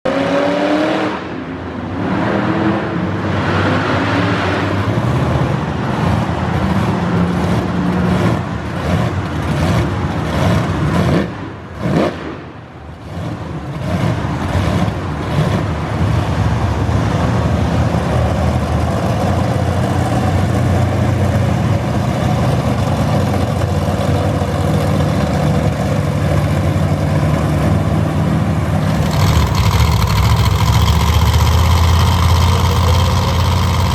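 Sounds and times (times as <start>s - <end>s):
monster truck engines revving: 0.1s - 33.9s.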